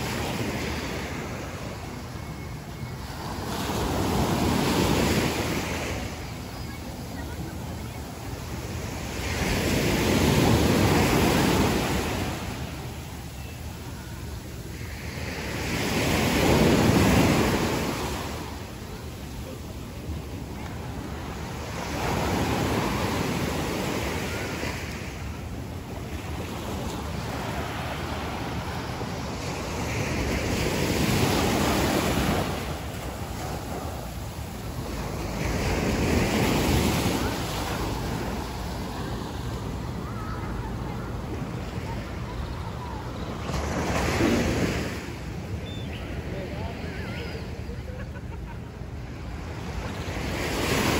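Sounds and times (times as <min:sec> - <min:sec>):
small waves breaking on beach: 0:00.0 - 0:45.5.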